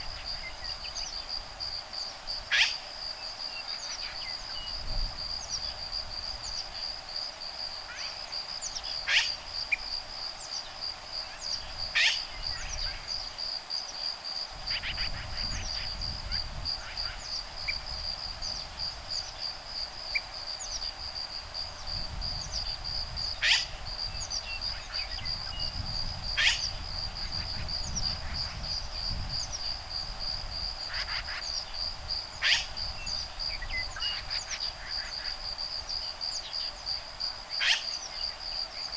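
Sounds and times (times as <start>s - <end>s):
high insect trill: 0.0s - 38.9s
low rumble of breeze: 0.0s - 38.9s.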